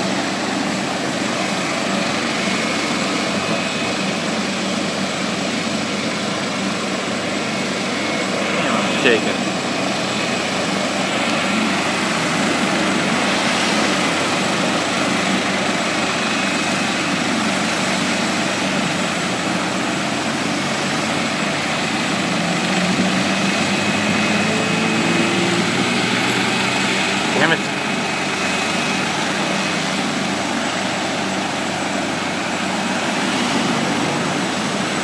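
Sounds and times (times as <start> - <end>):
helicopter rotor and engine: 0.0 - 35.0
passing road traffic: 0.0 - 35.0.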